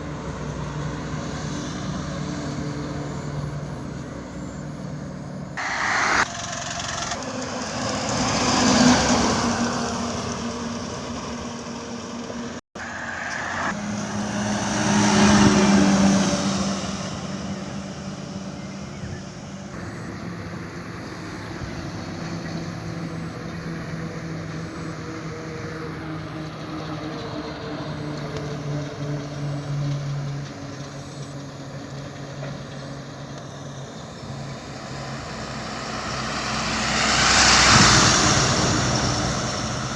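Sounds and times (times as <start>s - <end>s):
engine drone: 0.0s - 39.9s
trucks passing by: 0.0s - 39.9s.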